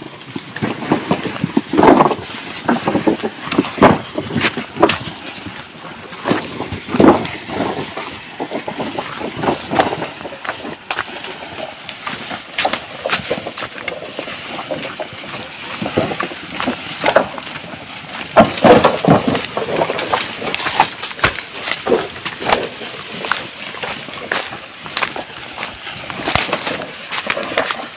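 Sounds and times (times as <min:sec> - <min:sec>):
bamboo poles clattering knocks: 0:00.0 - 0:27.9
bamboo poles scraping over ground: 0:00.0 - 0:27.9.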